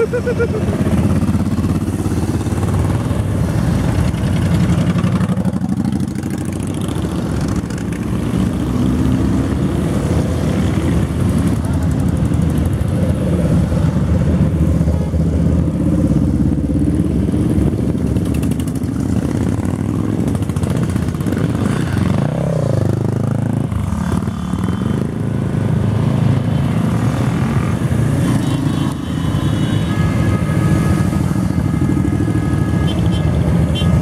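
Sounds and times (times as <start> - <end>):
motorcycles riding past: 0.0 - 34.0.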